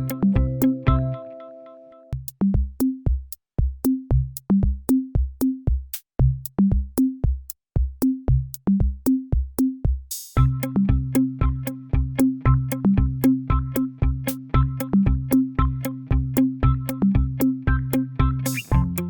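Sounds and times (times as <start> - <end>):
electronic beat: 0.0 - 1.2, 2.2 - 19.0.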